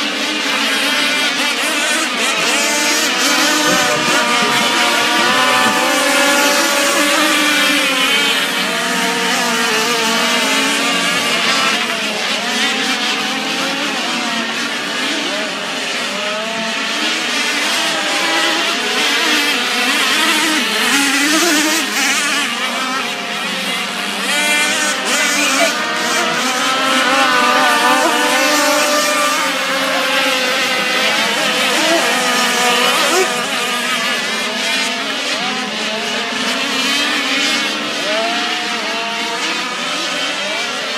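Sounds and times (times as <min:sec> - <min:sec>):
model boat engines whining: 0:00.0 - 0:40.9.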